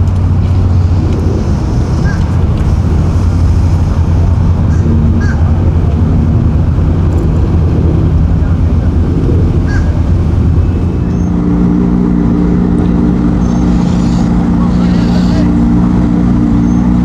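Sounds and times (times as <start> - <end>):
engine running at low revs: 0.0 - 17.0
wind buffeting microphone: 0.0 - 17.0.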